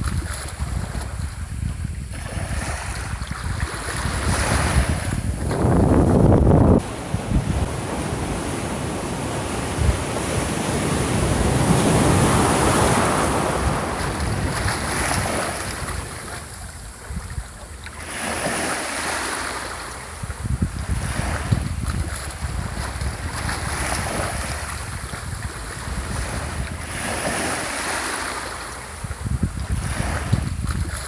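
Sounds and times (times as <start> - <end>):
sea waves washing onto shore: 0.0 - 31.0
wind rumble on microphone: 0.0 - 31.0.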